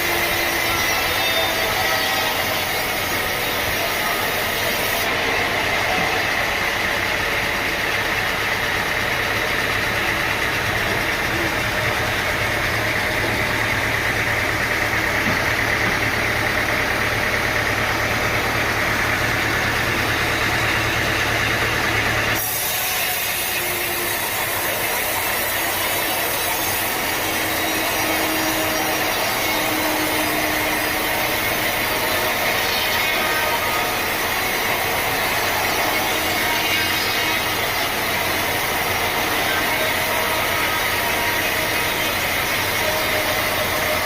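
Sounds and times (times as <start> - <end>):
engine hum: 0.0 - 44.0
hissy machine sound: 0.0 - 44.0
sawing wood: 0.0 - 44.0.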